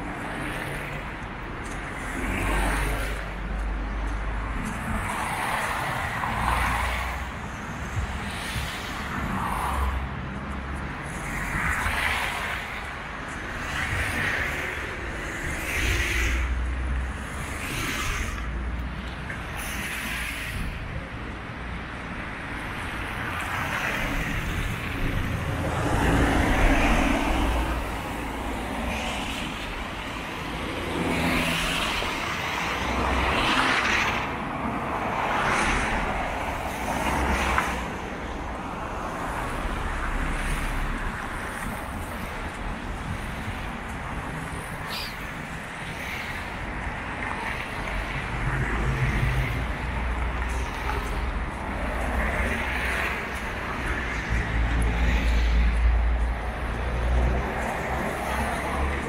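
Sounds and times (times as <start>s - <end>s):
cars passing: 0.0s - 59.0s
traffic rumble: 0.0s - 59.0s.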